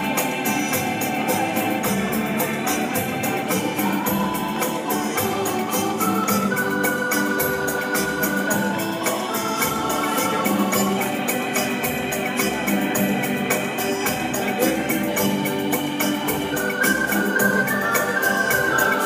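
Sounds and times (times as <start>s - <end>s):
dance music with keyboard: 0.0s - 19.0s.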